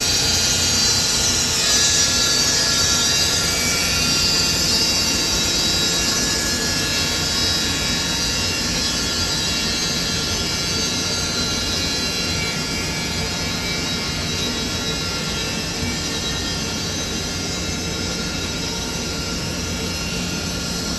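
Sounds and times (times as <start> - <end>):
saw whining through log: 0.0 - 20.9.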